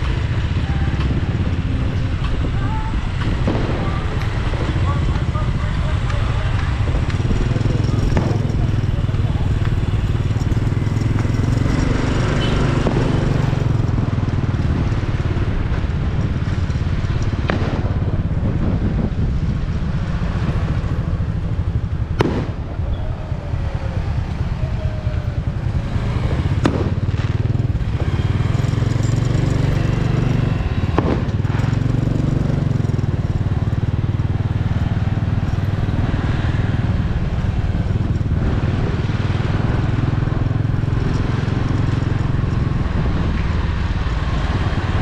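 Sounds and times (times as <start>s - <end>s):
motorcycle engine droning: 0.0s - 45.0s
road noise: 0.0s - 45.0s.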